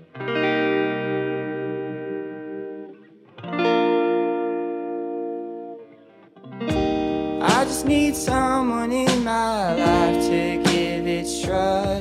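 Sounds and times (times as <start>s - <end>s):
guitar chords ringing out: 0.0s - 12.0s.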